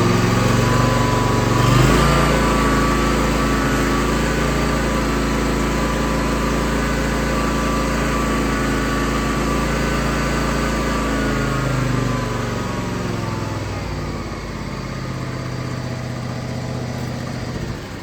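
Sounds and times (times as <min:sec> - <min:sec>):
lawn tractor engine running: 0:00.0 - 0:18.0.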